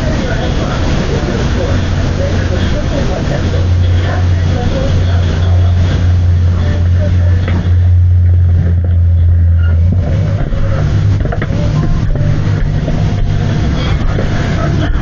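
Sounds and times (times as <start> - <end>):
faint wavering tones: 0.0 - 15.0
low droning hum: 0.0 - 15.0.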